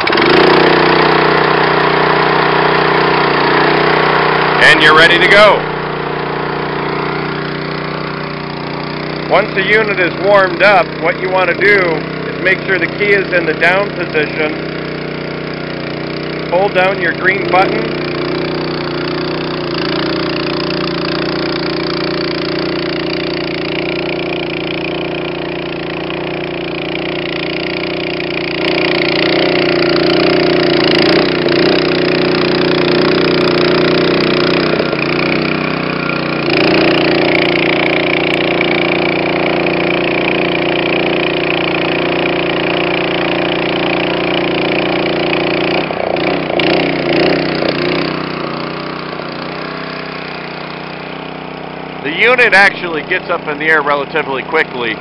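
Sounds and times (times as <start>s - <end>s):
gas engine running steadily: 0.0s - 55.0s.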